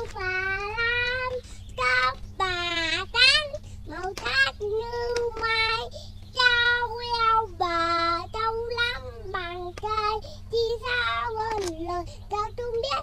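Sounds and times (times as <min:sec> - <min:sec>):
child singing: 0:00.0 - 0:13.0.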